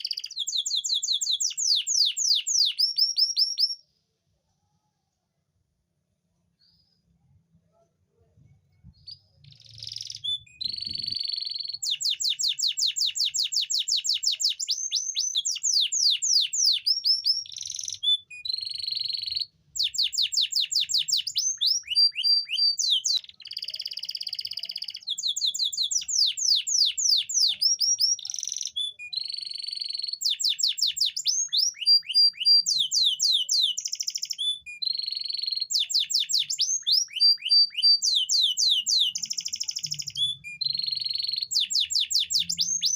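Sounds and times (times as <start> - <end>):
canary singing trills: 0.0 - 3.8, 8.9 - 42.9.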